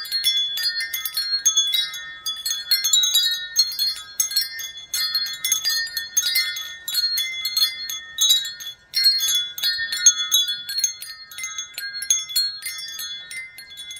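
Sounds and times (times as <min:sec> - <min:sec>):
wind chimes ringing: 0:00.0 - 0:13.9.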